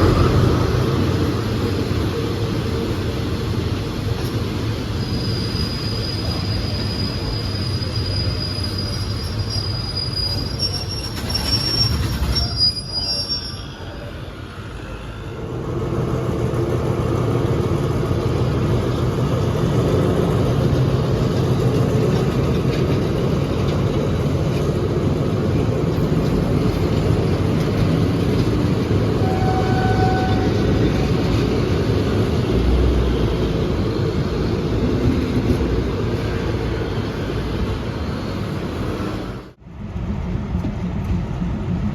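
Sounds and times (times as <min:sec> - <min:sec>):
train wheels squealing on rails: 0:00.0 - 0:15.5, 0:18.9 - 0:39.5
diesel train rumbling past: 0:00.0 - 0:41.9.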